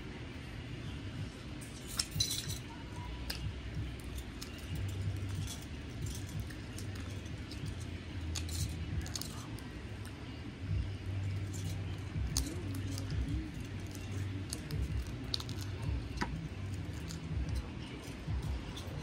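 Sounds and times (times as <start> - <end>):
low steady rumble: 0.0 - 19.0
metal bangles clinking: 1.6 - 10.2, 11.2 - 19.0.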